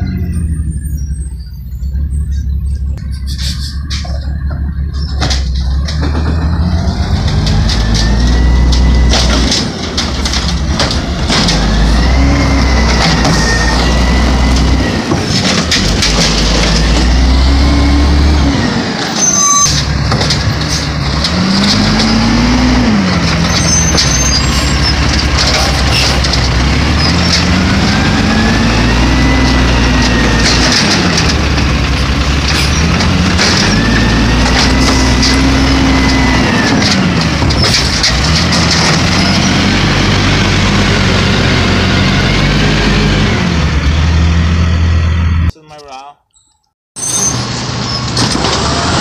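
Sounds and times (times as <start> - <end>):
garbage truck diesel engine revving: 0.0 - 45.5, 47.4 - 49.0
hydraulic arm lifting carts: 0.1 - 45.0, 46.4 - 49.0.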